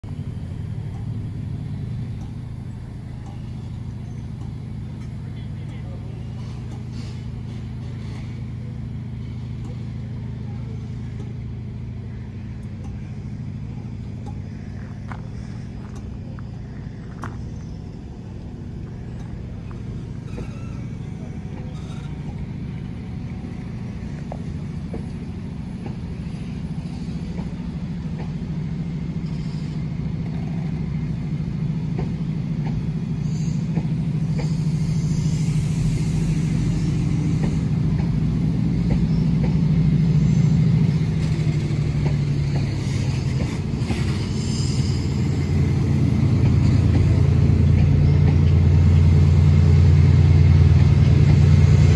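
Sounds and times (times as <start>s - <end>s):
diesel locomotive engine drone: 0.0s - 51.9s
train coaches rolling slowly: 0.0s - 51.9s.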